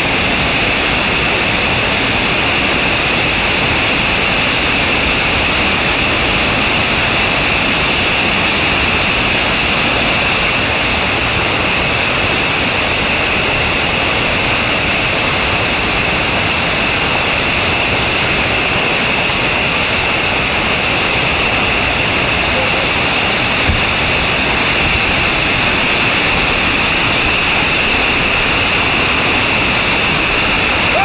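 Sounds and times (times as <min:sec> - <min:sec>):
rapids rushing over boulders: 0:00.0 - 0:31.0.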